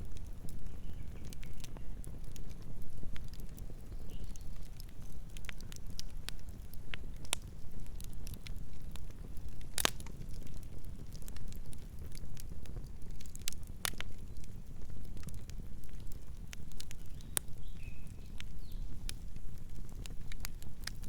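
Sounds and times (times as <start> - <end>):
low rumble of burning: 0.0 - 21.0.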